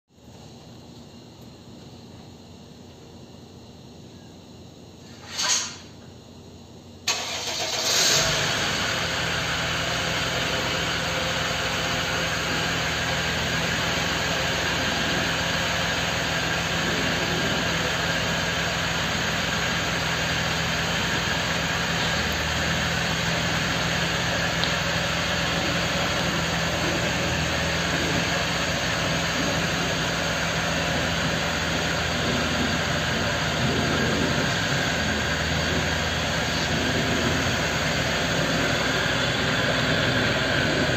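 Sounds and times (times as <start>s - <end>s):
diesel engine starting and idling: 7.0s - 40.9s.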